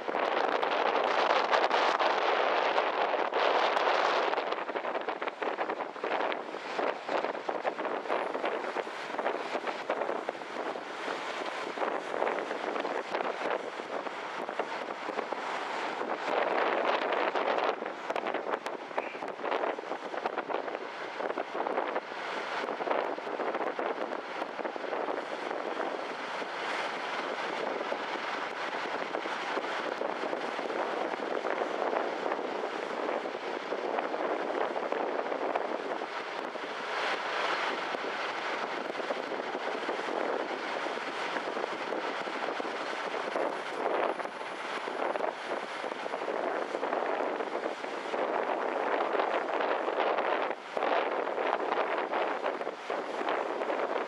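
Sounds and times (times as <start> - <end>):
rushing wind and water: 0.0 - 54.0
wind buffeting microphone: 0.0 - 54.0.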